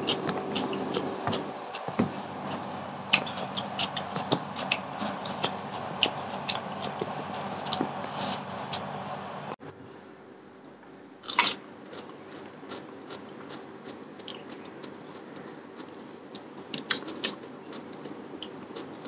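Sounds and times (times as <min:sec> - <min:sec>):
person chewing food: 0:00.0 - 0:08.8, 0:11.2 - 0:19.0
steady low hum: 0:00.0 - 0:16.8.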